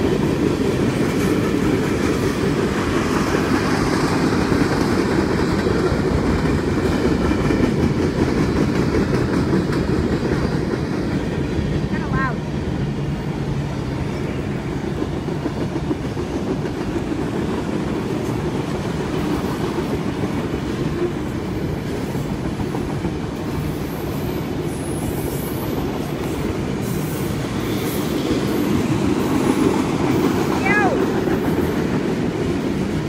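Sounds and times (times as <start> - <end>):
train wheels running on rails: 0.0 - 33.0.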